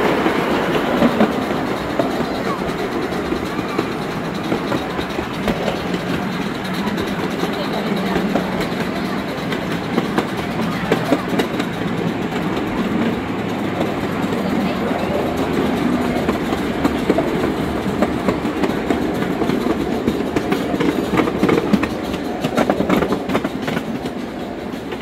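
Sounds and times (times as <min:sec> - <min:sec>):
train wheels clicking over rail joints: 0:00.0 - 0:25.0.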